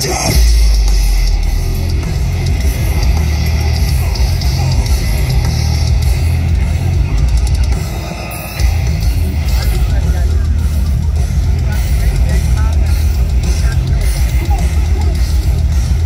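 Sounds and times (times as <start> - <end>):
heavy metal band playing live: 0.0 - 16.0.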